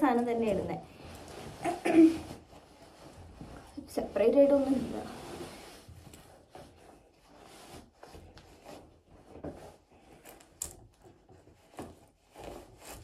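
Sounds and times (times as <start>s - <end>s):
clothing rustling: 0.0s - 13.0s.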